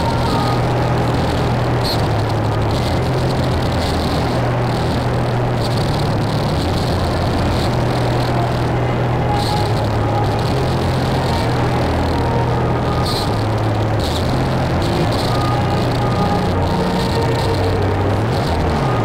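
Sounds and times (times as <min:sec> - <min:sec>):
distorted wall of noise: 0:00.0 - 0:19.0
low steady drone: 0:00.0 - 0:19.0.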